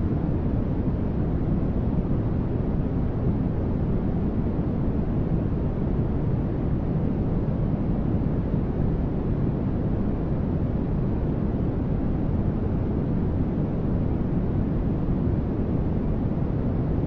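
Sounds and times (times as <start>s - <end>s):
soft steady static: 0.0s - 17.0s.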